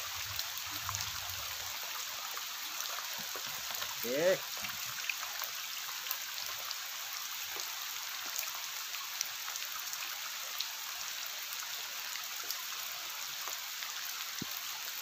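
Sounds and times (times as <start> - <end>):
rain falling on water: 0.0 - 15.0.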